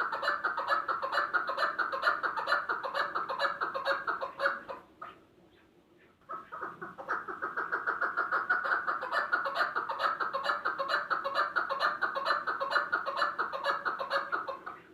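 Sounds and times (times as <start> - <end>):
partridge clucking calls: 0.0 - 14.9.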